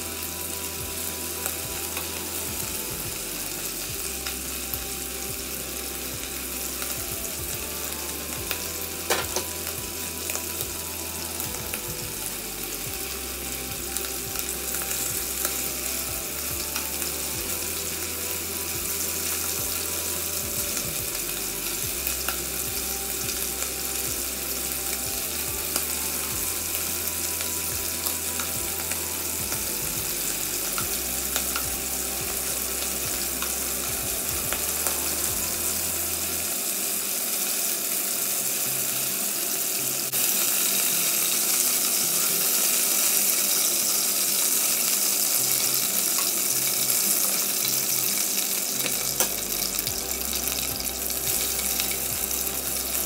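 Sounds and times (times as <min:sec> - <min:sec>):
beef sizzling in oil: 0:00.0 - 0:53.0.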